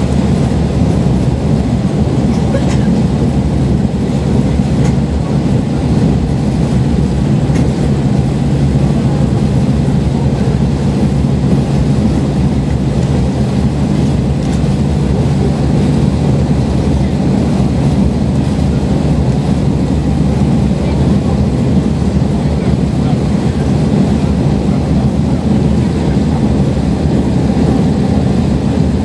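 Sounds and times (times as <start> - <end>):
railcar engine drone: 0.0 - 29.0
wheels rumbling on rails: 0.0 - 29.0.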